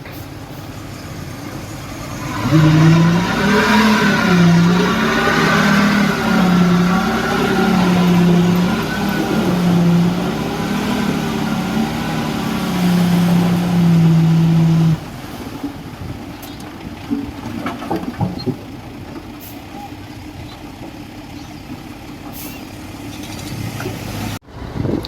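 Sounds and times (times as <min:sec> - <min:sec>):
diesel construction machine running: 0:00.0 - 0:25.0.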